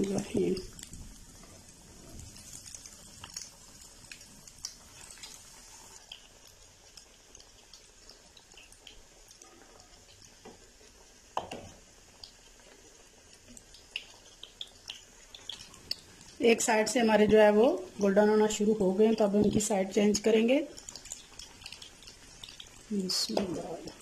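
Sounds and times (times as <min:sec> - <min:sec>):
cutlets sizzling in hot oil: 0:00.0 - 0:24.0
oil popping and crackling: 0:00.0 - 0:24.0.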